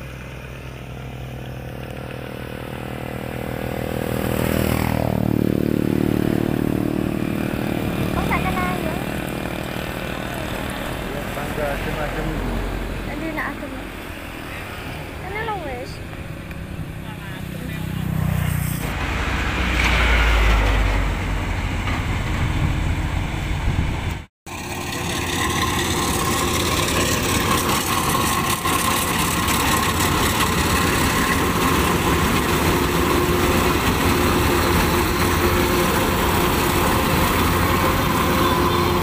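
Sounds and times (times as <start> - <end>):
combine harvester drone: 0.0 - 39.0.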